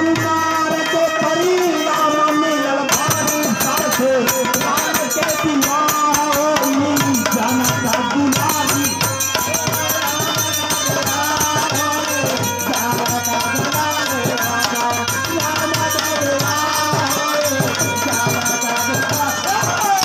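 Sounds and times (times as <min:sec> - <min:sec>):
hand drum rhythm: 0:00.0 - 0:20.0.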